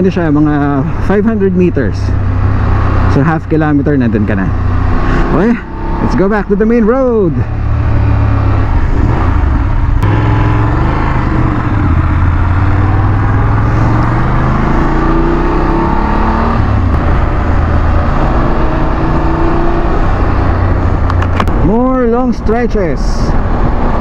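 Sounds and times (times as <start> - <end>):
motorcycle engine accelerating: 0.0 - 22.3.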